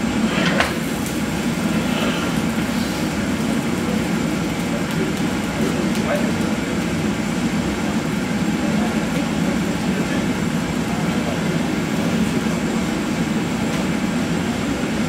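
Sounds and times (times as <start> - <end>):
furnace roar: 0.0 - 15.0.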